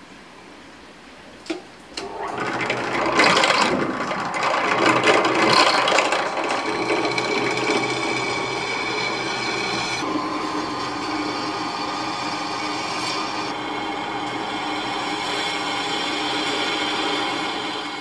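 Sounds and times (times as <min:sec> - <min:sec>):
drill press cutting steel: 0:02.0 - 0:18.0.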